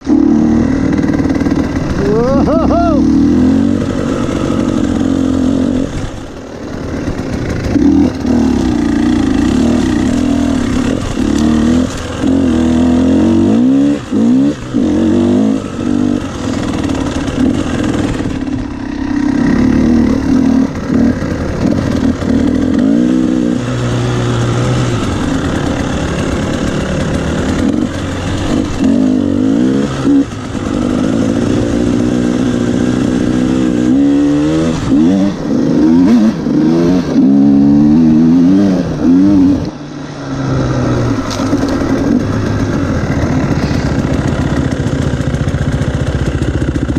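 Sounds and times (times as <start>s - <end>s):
motorbike engines revving: 0.0s - 46.9s.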